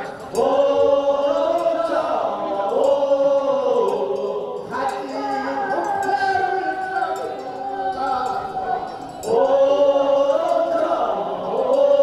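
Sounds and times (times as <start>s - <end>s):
group chanting in sliding notes: 0.0s - 12.0s.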